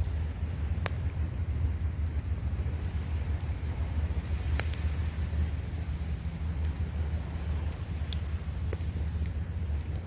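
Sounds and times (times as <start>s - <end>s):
campfire crackling and popping: 0.0s - 10.0s
waves on the shore: 0.0s - 10.0s.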